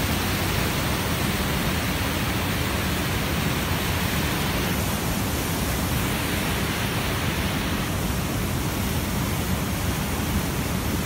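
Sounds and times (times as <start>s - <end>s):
whitewater rushing through rocks: 0.0s - 11.0s.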